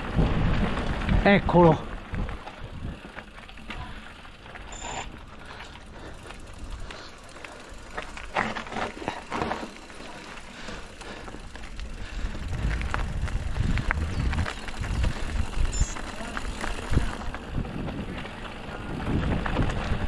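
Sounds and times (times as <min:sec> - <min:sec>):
bike clicks and rattles: 0:00.0 - 0:20.0
bike tyres on dirt: 0:00.0 - 0:20.0.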